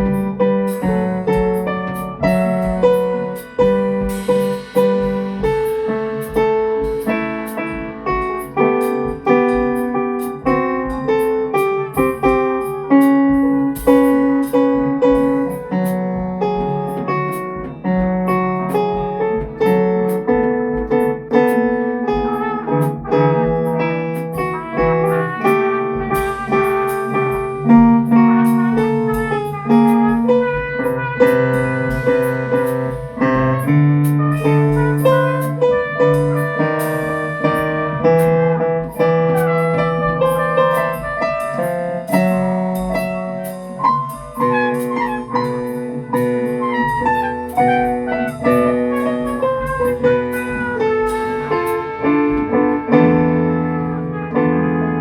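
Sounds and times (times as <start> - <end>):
drum beat with cymbals: 0.0 - 55.0
keyboard piano melody: 0.0 - 55.0.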